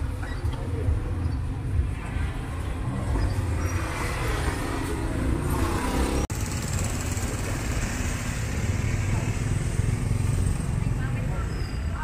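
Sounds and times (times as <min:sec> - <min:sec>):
motorbikes and cars passing: 0:00.0 - 0:12.0.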